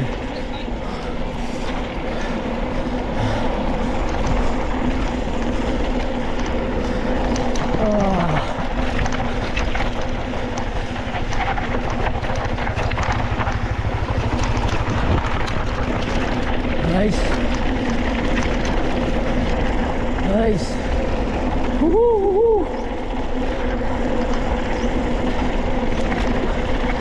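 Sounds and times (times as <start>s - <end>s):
bike clattering over rough ground: 0.0s - 27.0s.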